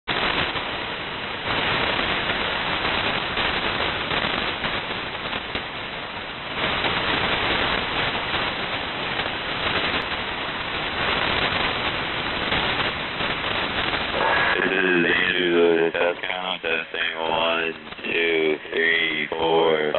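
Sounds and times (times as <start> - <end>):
shortwave radio static hiss: 0.1 - 19.9.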